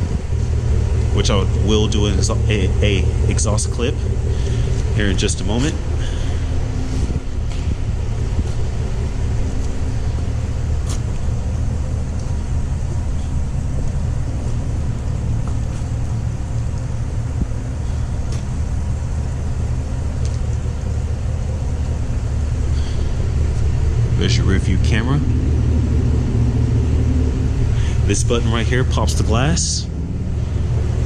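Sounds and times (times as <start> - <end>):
car exhaust idling: 0.0 - 31.0.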